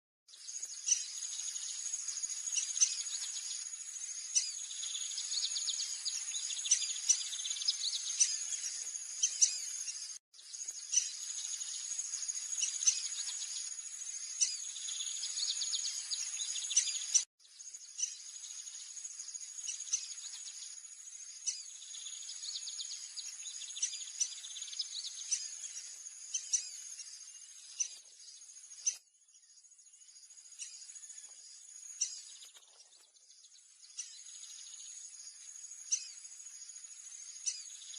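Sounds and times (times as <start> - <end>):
high insect trill: 0.3 - 32.6, 33.4 - 37.9
bird chirps and calls: 0.4 - 37.9.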